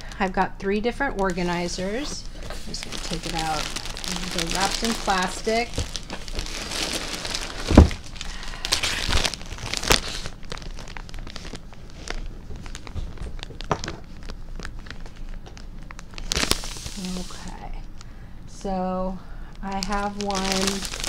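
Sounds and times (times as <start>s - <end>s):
plastic wrapping crinkling: 1.2s - 17.6s, 19.5s - 21.0s.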